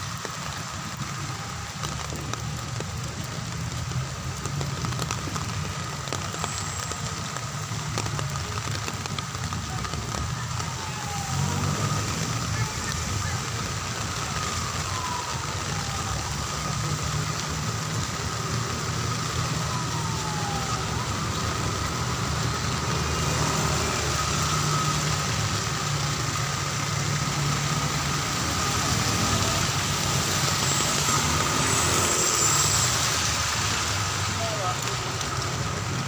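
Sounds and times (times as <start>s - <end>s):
heavy rain hissing: 0.0s - 36.0s
vehicle engines rumbling: 0.0s - 36.0s.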